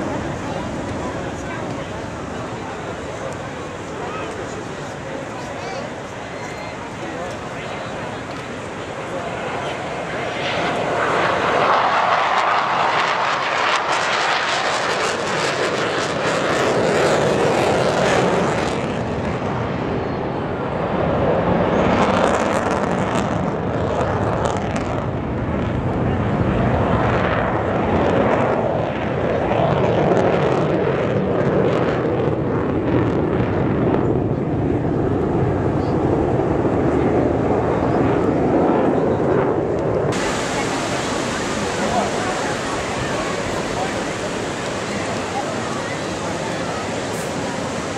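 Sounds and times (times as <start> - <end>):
fighter jet engine roar: 0.0 - 47.9.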